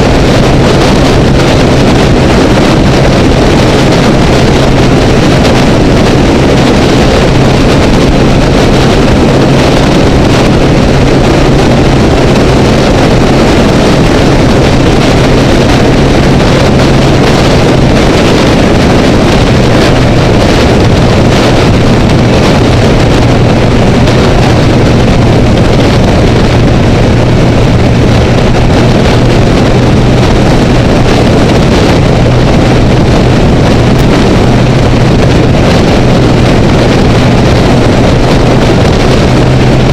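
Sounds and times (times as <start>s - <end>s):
motorcycle engine humming: 0.0s - 39.9s
wind rush: 0.0s - 39.9s.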